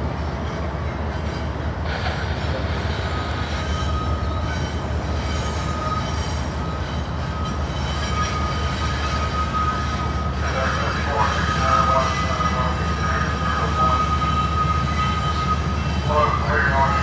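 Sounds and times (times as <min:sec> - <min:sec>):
freight train rumble: 0:00.0 - 0:17.0
high wheel squeal: 0:00.4 - 0:16.7.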